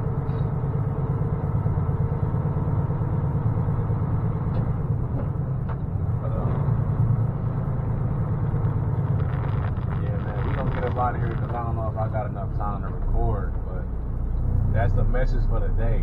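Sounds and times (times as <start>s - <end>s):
diesel truck engine rumble: 0.0s - 16.0s.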